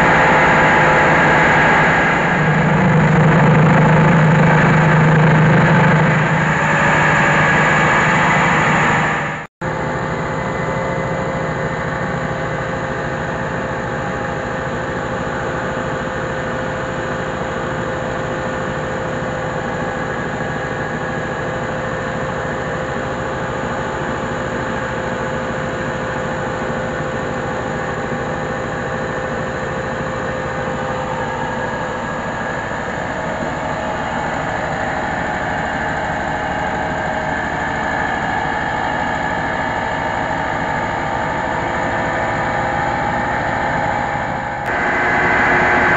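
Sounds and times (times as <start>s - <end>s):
diesel rice huller running: 0.0s - 45.9s.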